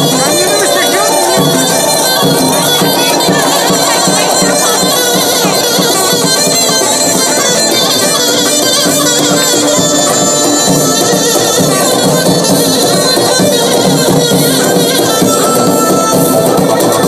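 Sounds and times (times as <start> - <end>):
loud folk music: 0.0 - 17.0.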